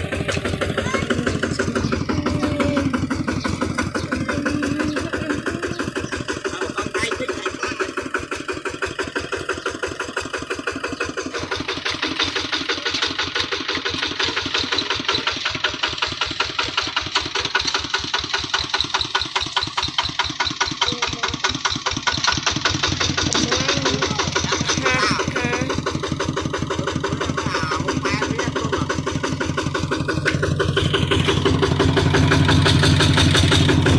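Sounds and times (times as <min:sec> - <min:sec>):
diesel engine chugging: 0:00.0 - 0:33.9.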